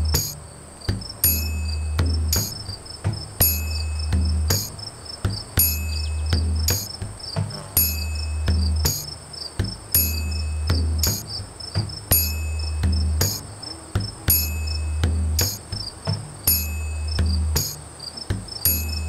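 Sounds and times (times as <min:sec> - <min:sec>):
crickets chirring: 0:00.0 - 0:19.0
looped drum beat with taps: 0:00.0 - 0:19.0.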